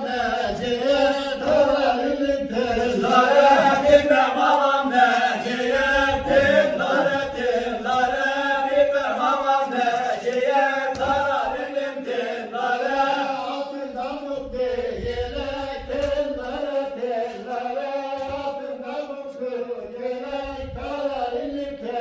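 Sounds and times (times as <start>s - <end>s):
group singing unaccompanied folk song: 0.0s - 22.0s.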